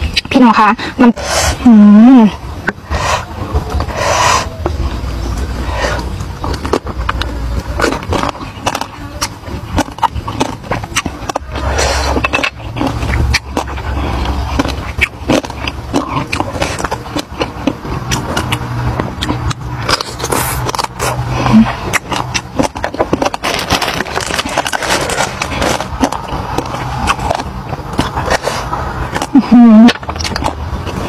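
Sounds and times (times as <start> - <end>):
person chewing food crunchily: 1.2 - 31.0.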